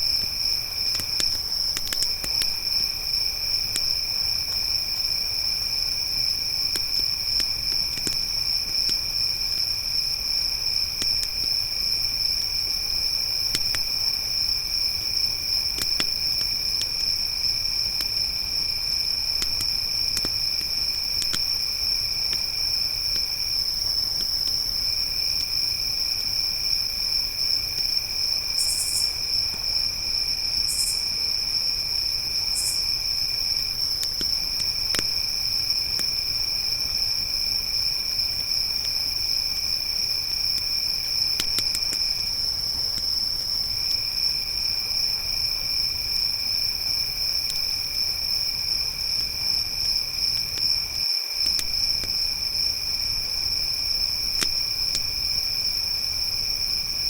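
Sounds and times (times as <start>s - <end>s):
campfire crackles: 0.0s - 57.0s
crickets trilling: 0.0s - 57.0s
lower insect trill: 0.0s - 57.0s.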